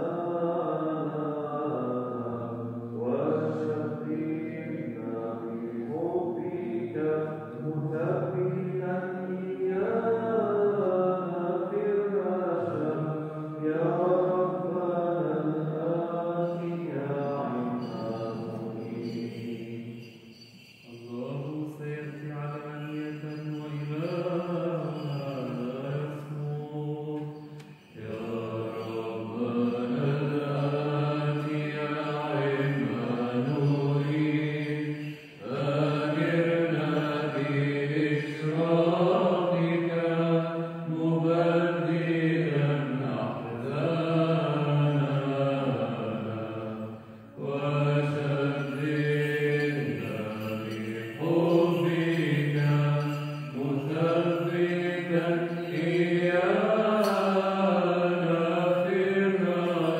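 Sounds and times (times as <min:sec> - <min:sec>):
male voices chanting: 0:00.0 - 0:59.9.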